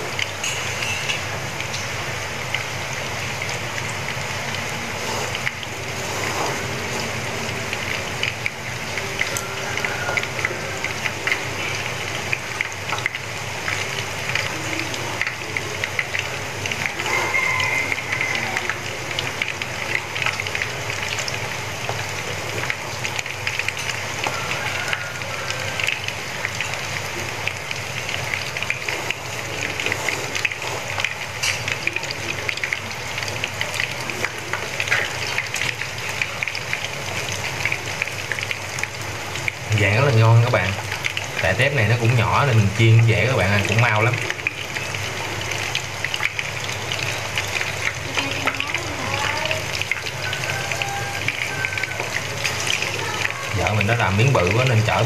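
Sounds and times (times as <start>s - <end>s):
fritters sizzling in hot oil: 0.0s - 55.0s.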